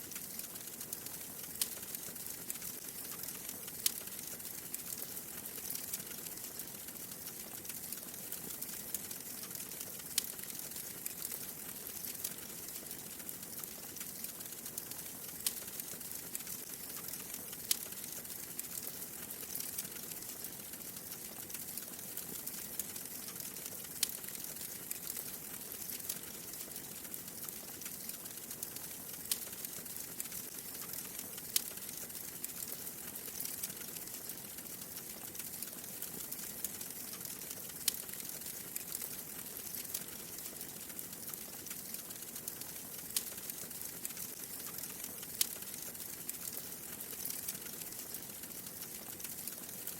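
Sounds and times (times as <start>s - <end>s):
wood fire crackling: 0.0s - 49.9s
fire popping: 0.1s - 49.9s.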